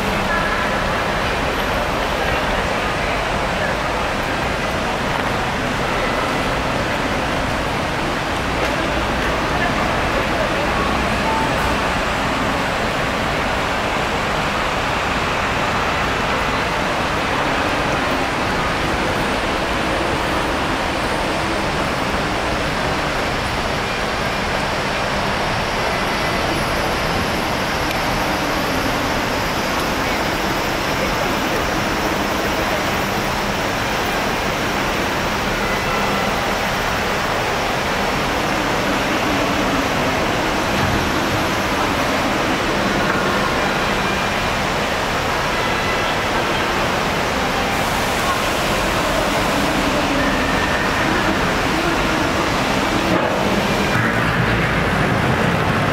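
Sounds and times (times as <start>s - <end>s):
steady rushing noise: 0.0s - 55.9s.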